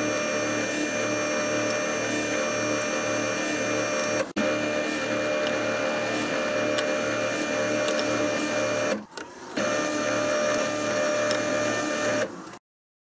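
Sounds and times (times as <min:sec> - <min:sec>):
drill press drilling wood: 0:00.0 - 0:12.6.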